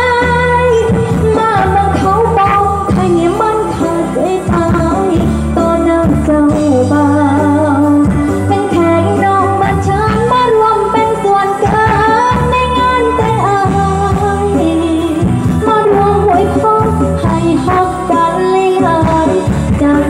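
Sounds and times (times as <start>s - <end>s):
backing music: 0.0s - 20.0s
woman singing into a microphone: 0.0s - 20.0s.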